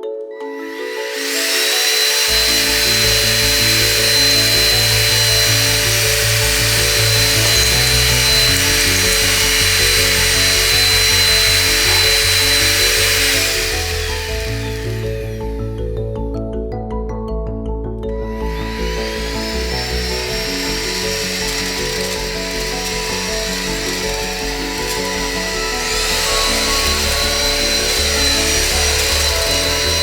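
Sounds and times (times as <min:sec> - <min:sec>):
background music: 0:00.0 - 0:30.0
stick vacuum running: 0:00.4 - 0:15.9, 0:18.2 - 0:30.0.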